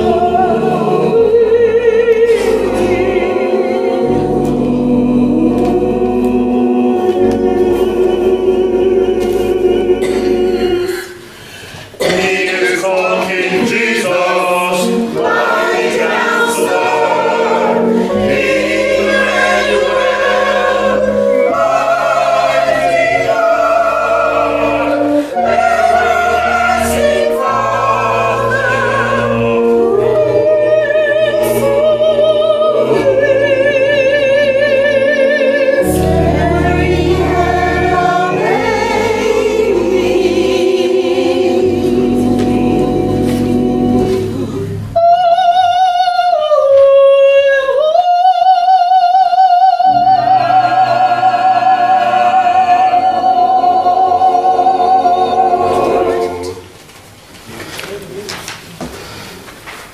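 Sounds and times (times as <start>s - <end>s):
choir singing a hymn: 0.0s - 56.8s.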